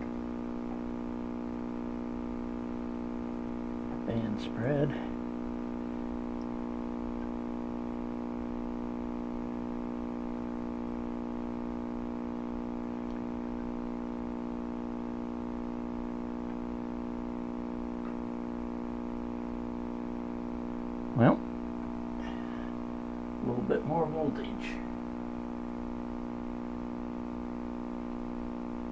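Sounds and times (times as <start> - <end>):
radio speaker hum: 0.0 - 28.9.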